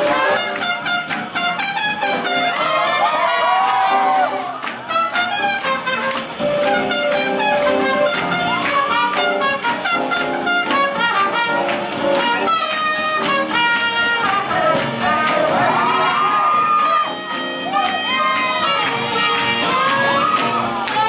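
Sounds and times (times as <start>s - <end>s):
swing jazz with horns: 0.0s - 21.0s.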